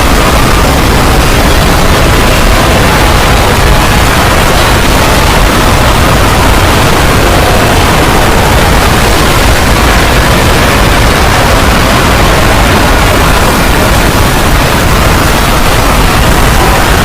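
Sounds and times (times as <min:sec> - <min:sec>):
loud steady roar: 0:00.0 - 0:17.0.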